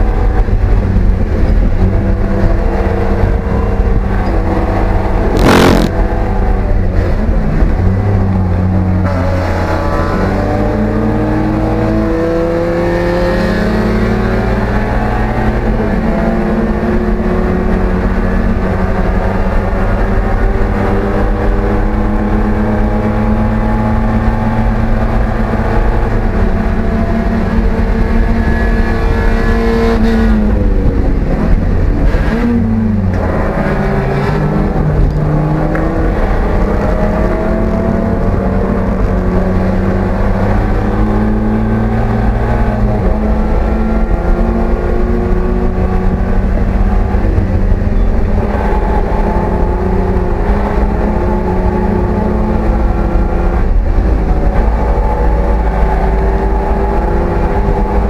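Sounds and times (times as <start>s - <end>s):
loud rush of noise: 0.0s - 58.0s
race car engine accelerating: 0.0s - 58.0s.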